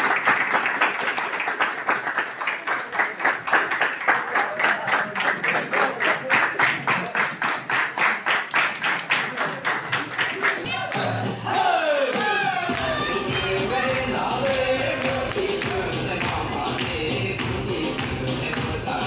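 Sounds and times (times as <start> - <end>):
group clapping in time: 0.0 - 19.0.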